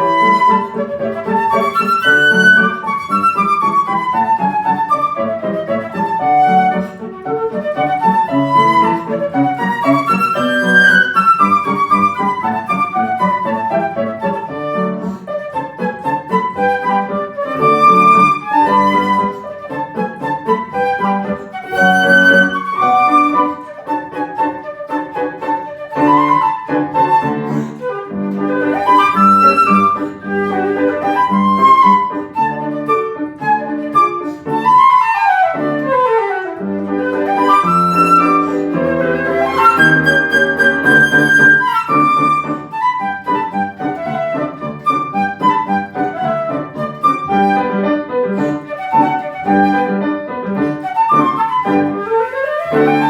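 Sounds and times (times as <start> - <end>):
flute playing lively dance: 0.0 - 53.0
piano accompaniment: 0.0 - 53.0.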